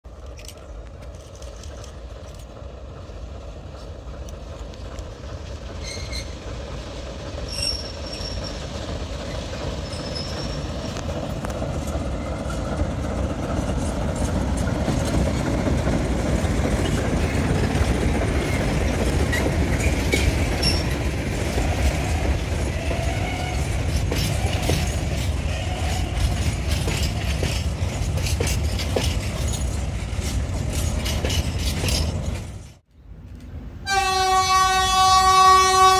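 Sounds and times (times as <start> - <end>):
diesel locomotive engine rumbling: 0.0 - 35.9
freight wagon wheels clicking on rails: 0.1 - 32.8.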